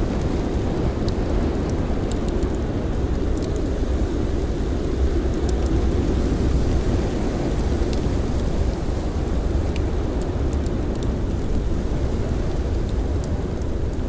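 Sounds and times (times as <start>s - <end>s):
blizzard wind rumbling: 0.0s - 14.0s
campfire crackling: 0.0s - 14.0s.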